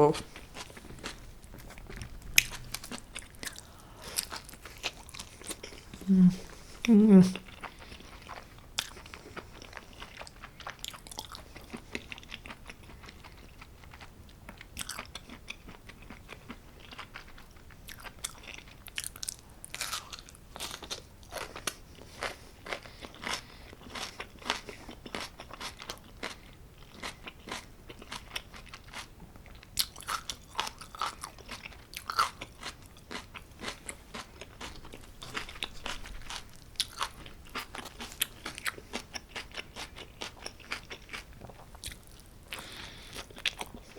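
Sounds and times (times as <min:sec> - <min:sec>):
pizza crust crunching while chewing: 0:00.2 - 0:06.0, 0:07.4 - 0:43.9.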